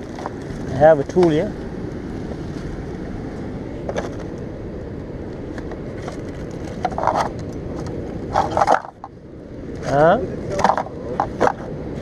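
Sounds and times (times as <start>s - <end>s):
sea surf on rocks: 0.0s - 12.0s.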